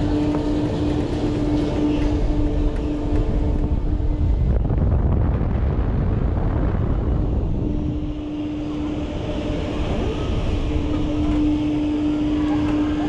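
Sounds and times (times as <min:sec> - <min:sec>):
ride mechanical hum: 0:00.0 - 0:13.0
wind rumbling on microphone: 0:00.0 - 0:13.0.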